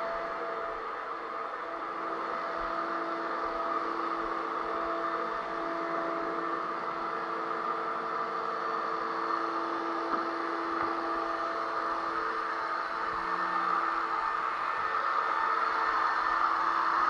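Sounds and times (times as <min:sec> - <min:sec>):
drywall sander motor whir: 0:00.0 - 0:17.0.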